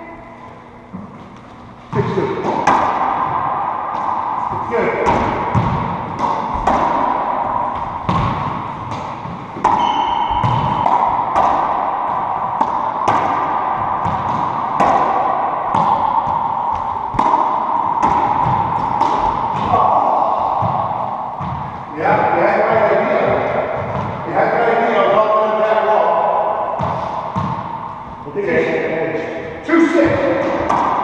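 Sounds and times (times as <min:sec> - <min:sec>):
steady background hum: 0:00.0 - 0:31.0
racquetball hits: 0:00.9 - 0:31.0.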